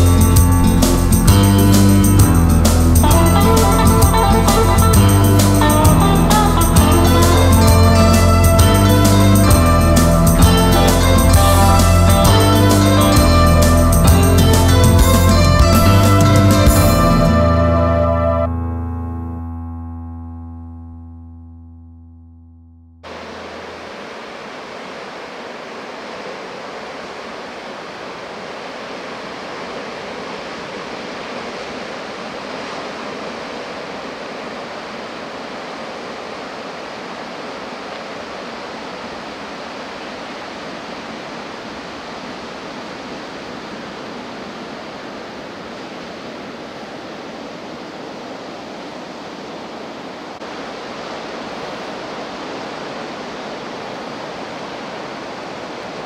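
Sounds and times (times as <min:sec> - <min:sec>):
ocean surf breaking: 0:00.0 - 0:18.5, 0:23.0 - 0:56.0.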